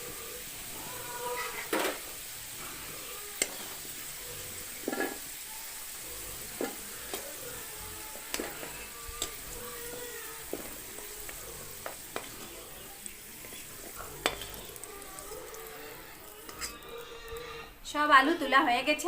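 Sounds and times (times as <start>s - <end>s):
oil sizzling: 0.0s - 19.0s
spatula scraping a pan: 0.1s - 19.0s.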